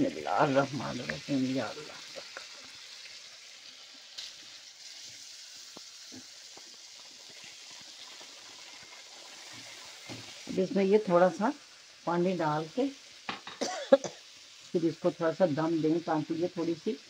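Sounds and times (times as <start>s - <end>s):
lentils sizzling in a pan: 0.0s - 17.0s.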